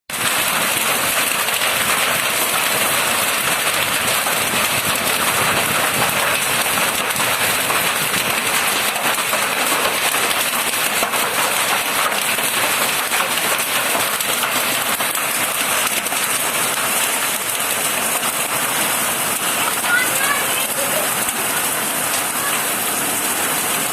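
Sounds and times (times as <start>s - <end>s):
hailstones ticking: 0.1s - 23.9s
heavy rain falling: 0.1s - 23.9s.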